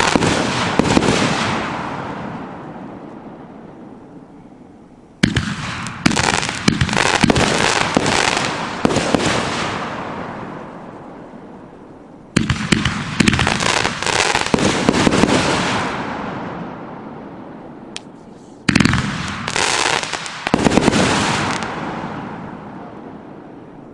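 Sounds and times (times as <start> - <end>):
fireworks banging and crackling: 0.0 - 3.3, 5.2 - 11.3, 12.3 - 17.1, 18.0 - 23.4.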